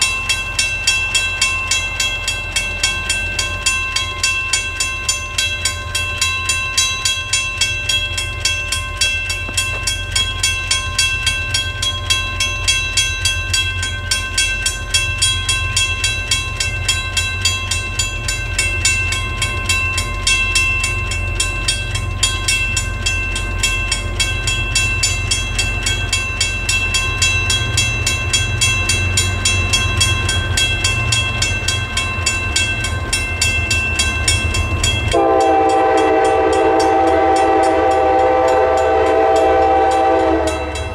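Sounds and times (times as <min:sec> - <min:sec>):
mechanical crossing bell ringing: 0:00.0 - 0:40.9.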